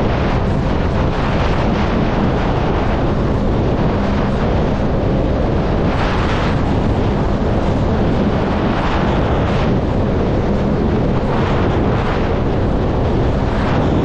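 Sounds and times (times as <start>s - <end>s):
motorboat engine drone: 0.0s - 14.0s
water rushing against hull: 0.0s - 14.0s
wind buffeting microphone: 0.0s - 14.0s.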